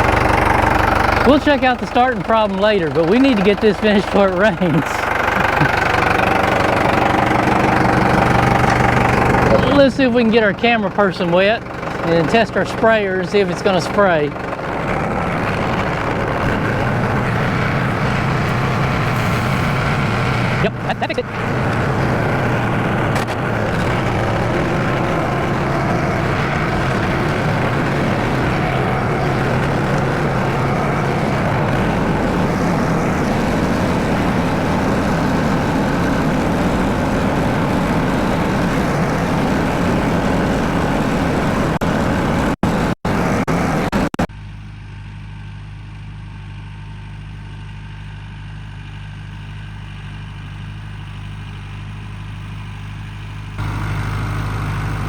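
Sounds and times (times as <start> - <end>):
sprayer rushing noise: 0.0 - 44.2
tractor engine running: 0.0 - 55.0.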